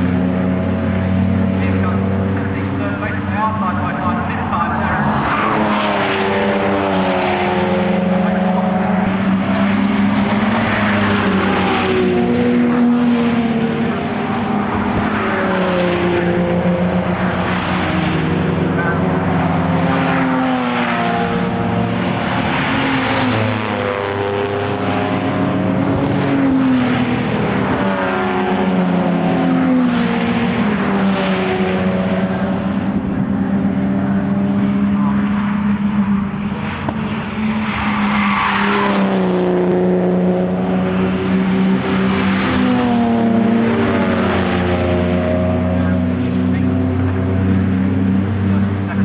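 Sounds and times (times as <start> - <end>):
race car engines passing: 0.0 - 49.0.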